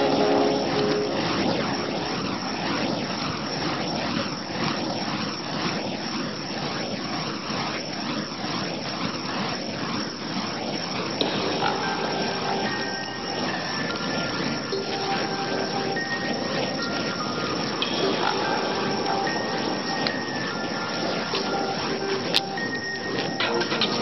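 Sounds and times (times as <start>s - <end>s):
fire poi whooshing: 0.0s - 24.0s.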